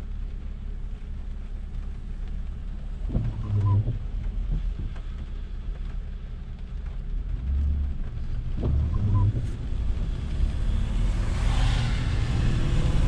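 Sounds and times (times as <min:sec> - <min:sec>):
car rumble inside cabin: 0:00.0 - 0:13.0.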